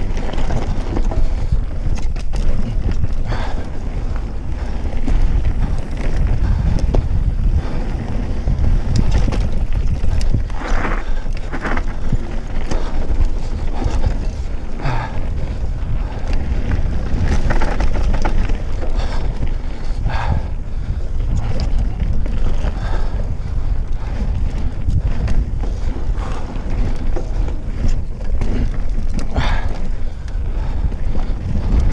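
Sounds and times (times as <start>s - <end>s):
bike knocks and rattles: 0.0s - 31.9s
bike tyre noise: 0.0s - 31.9s
wind buffeting microphone: 0.0s - 31.9s.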